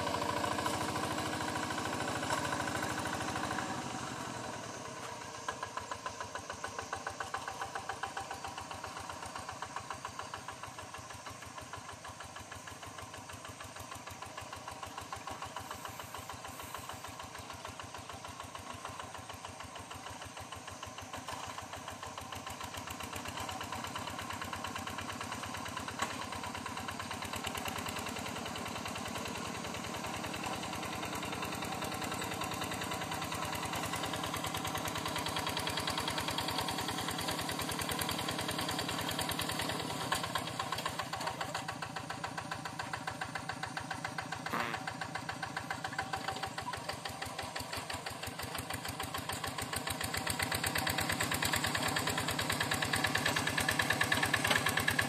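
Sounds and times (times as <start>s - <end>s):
hand tractor diesel engine: 0.0s - 55.0s.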